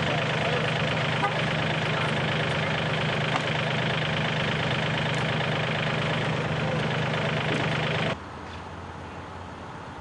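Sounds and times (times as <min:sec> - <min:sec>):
loader engine humming: 0:00.0 - 0:10.0.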